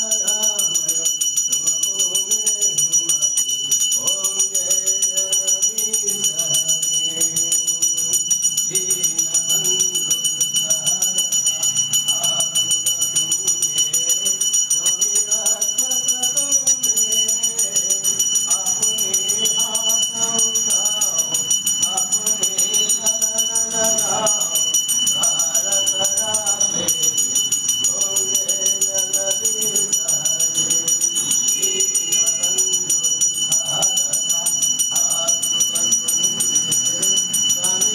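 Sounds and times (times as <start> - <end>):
bell ringing rapidly: 0.0 - 37.9
voices singing a chant: 0.0 - 37.9.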